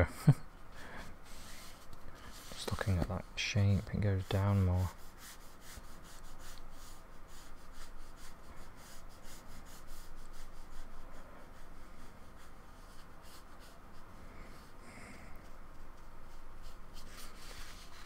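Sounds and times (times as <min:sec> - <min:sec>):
scratchy paintbrush strokes: 0:00.8 - 0:18.0.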